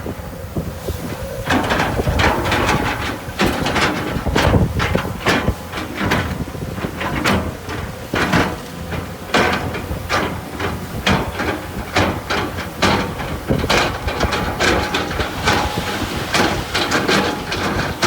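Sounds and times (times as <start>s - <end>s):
earthmoving machine rumbling: 0.4s - 18.0s
metallic clanks and knocks: 1.4s - 18.0s.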